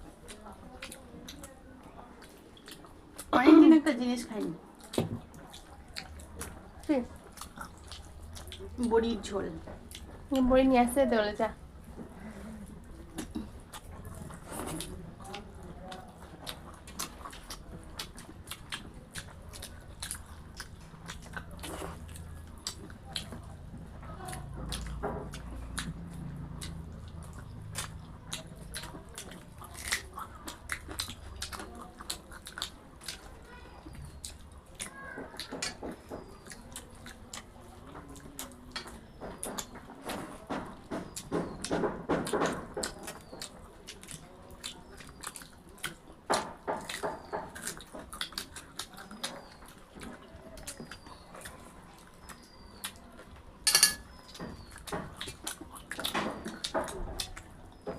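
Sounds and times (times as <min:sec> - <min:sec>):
chewing with wet mouth clicks: 0:00.0 - 0:11.0, 0:11.7 - 0:57.9.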